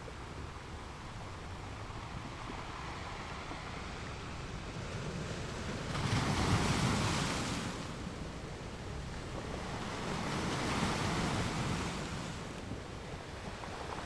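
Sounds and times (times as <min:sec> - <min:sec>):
wind rumble on microphone: 0:00.0 - 0:14.0
waves washing on shore: 0:02.8 - 0:14.0.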